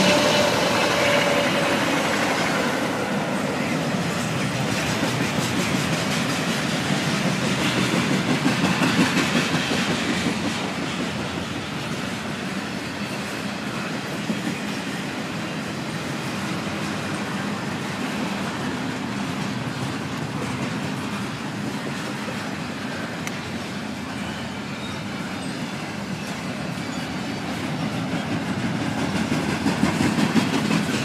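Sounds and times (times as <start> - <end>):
freight train rumbling past: 0.0 - 31.0
passenger train pulling away: 0.0 - 31.0.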